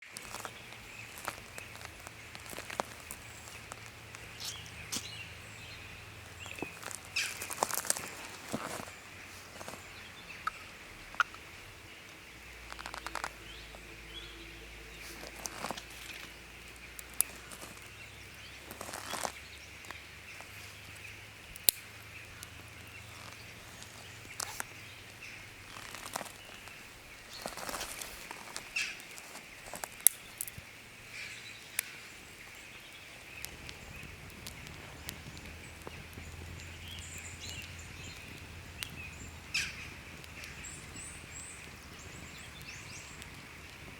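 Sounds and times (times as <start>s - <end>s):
campfire crackling and popping: 0.0s - 43.9s
forest ambience hiss: 0.0s - 43.9s
faint bird calls: 0.3s - 43.9s.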